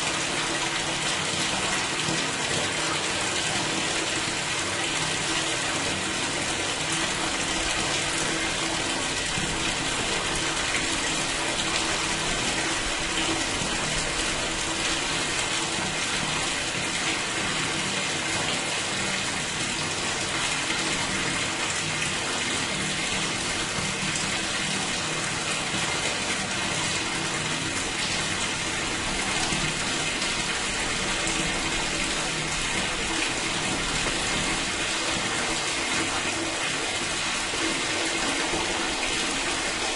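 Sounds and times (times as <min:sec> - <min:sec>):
water pouring into a drain: 0:00.0 - 0:39.9.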